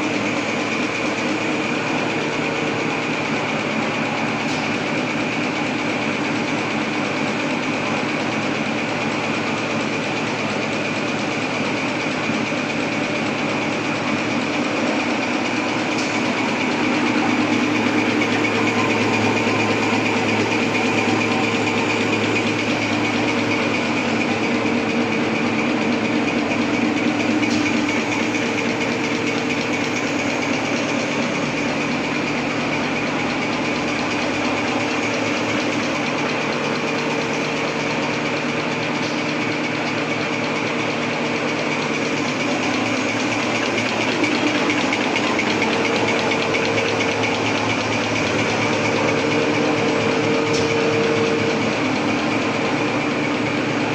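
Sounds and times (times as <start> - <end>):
paper folding machine whirring: 0.0 - 53.9.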